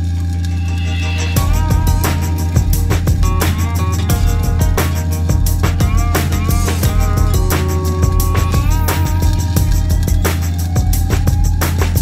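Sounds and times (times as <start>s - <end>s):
steady low hum: 0.0s - 10.4s
background music with drums: 0.7s - 12.0s.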